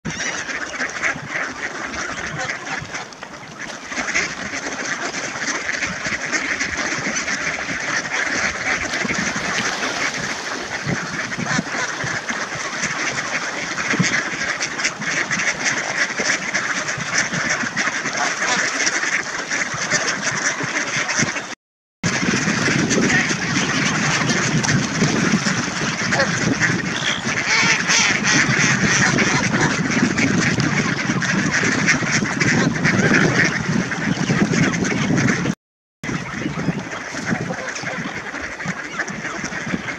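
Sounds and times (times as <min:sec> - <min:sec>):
flock of ducks quacking: 0:00.1 - 0:39.9.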